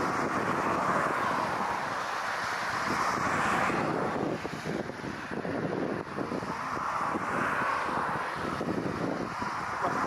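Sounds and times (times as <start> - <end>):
jet engines roaring at takeoff: 0.0 - 10.0
wind buffeting microphone: 0.0 - 10.0.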